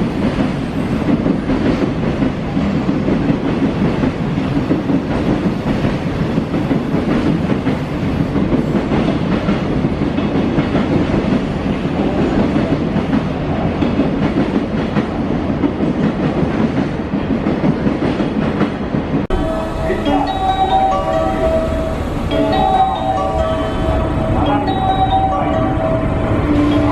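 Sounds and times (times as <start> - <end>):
freight train rumbling past: 0.0 - 26.9.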